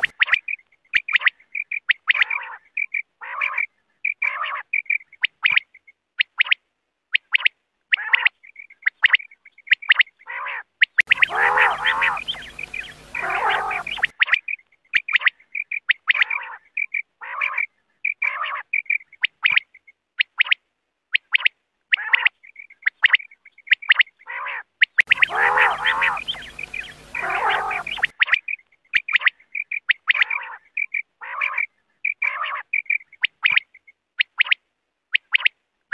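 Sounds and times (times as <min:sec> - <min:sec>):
quail calls: 0:00.0 - 0:06.6, 0:07.2 - 0:20.6, 0:21.2 - 0:34.6.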